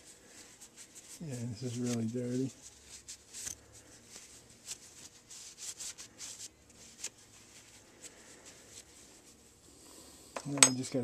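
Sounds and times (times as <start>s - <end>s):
faint rubbing strokes: 0.0s - 10.3s.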